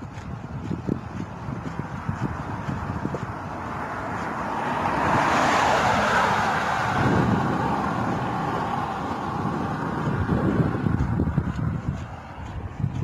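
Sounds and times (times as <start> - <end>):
road vehicle passing by: 0.0 - 13.0
wind buffeting microphone: 0.0 - 13.0.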